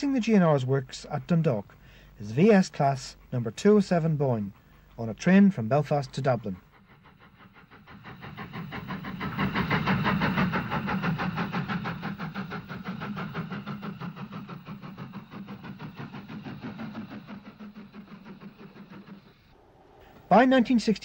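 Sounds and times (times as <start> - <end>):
steam locomotive exhaust chuffs: 0.0 - 21.0.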